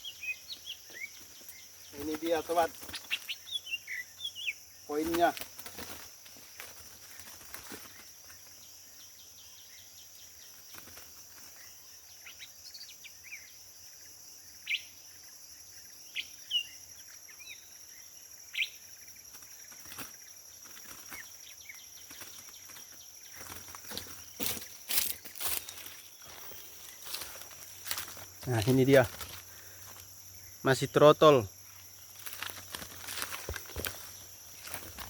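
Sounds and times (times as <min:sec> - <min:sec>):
sharp bird chirps: 0:00.0 - 0:13.7, 0:14.6 - 0:35.0
high-pitched insect drone: 0:00.0 - 0:35.0.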